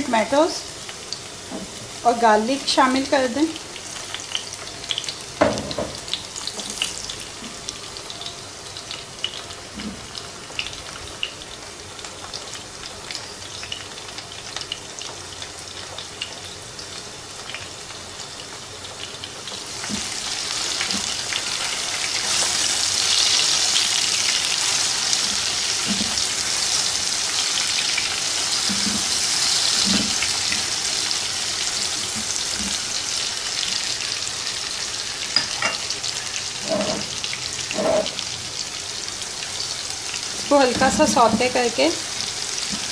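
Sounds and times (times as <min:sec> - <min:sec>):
vegetables sizzling in hot oil: 0:00.0 - 0:42.9.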